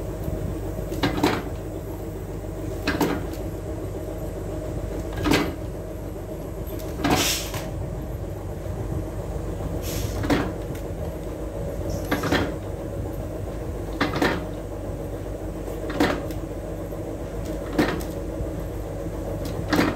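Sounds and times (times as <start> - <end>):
steady hum: 0.0 - 19.9.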